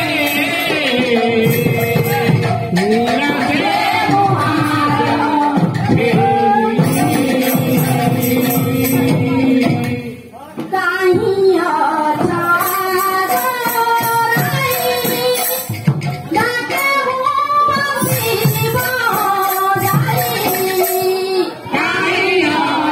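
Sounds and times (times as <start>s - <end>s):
high metallic percussion: 0.0s - 10.2s, 12.1s - 21.7s
two-headed drum: 0.0s - 11.5s, 12.1s - 21.2s.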